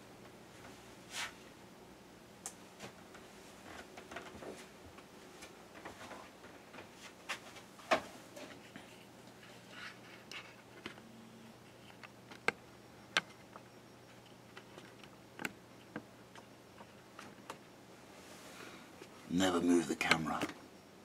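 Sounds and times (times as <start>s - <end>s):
faint printer hum: 0.0s - 21.0s.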